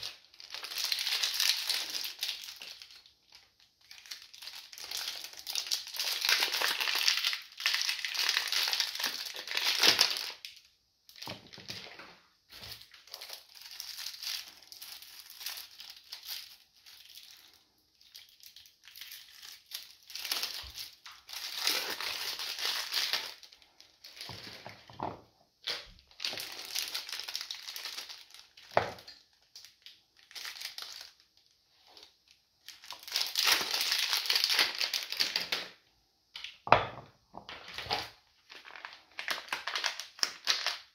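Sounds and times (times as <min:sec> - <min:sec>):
plastic wrapping crinkling: 0:00.0 - 0:35.8, 0:37.4 - 0:40.9.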